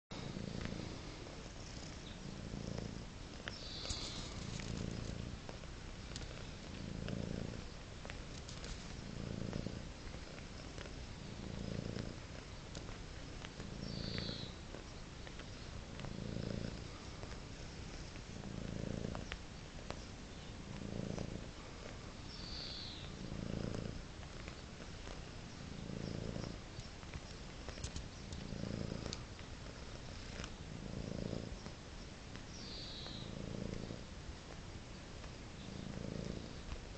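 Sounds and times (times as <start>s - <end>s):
cat purring: 0.1s - 36.9s.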